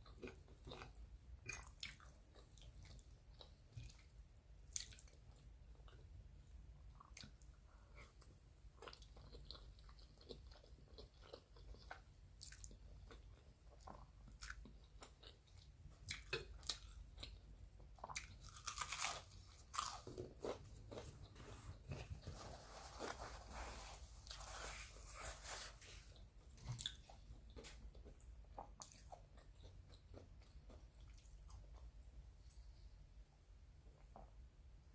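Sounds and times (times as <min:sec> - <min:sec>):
person chewing food: 0:00.0 - 0:32.8.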